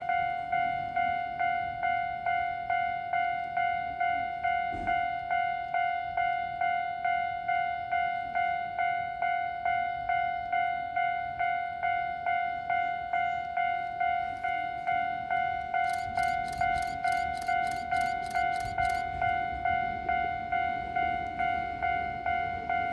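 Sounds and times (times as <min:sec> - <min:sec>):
level-crossing warning bell: 0:00.0 - 0:22.9.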